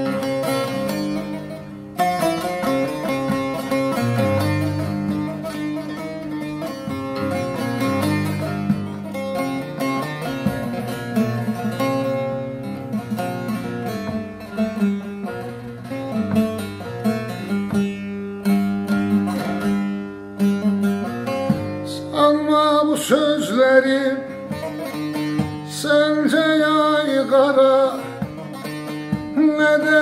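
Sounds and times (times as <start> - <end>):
plucked long-necked lute: 0.0 - 30.0.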